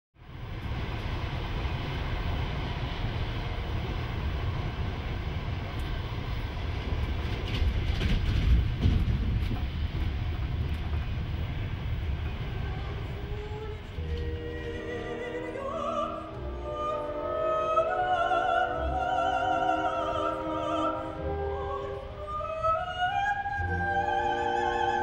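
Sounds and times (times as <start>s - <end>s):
train rumble inside carriage: 0.2s - 25.0s.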